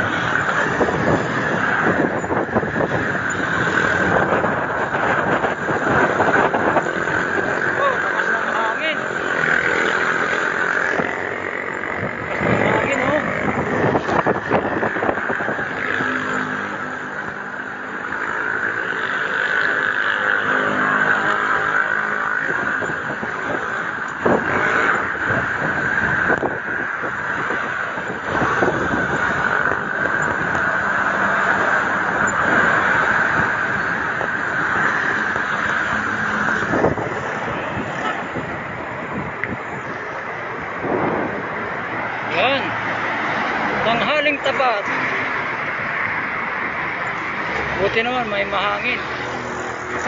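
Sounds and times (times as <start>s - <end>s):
road traffic rush: 0.0s - 50.0s
vehicles passing: 0.0s - 50.0s.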